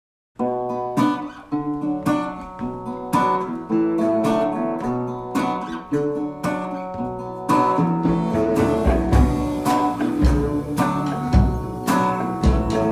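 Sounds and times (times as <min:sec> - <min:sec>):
acoustic guitar playing: 0:00.4 - 0:12.9.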